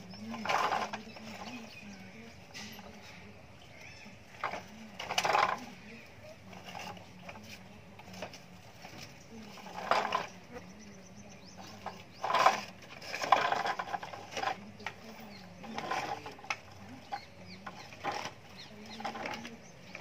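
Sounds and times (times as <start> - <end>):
plastic toy wheels rattling on bricks: 0.0 - 3.6, 4.2 - 10.8, 11.4 - 20.0.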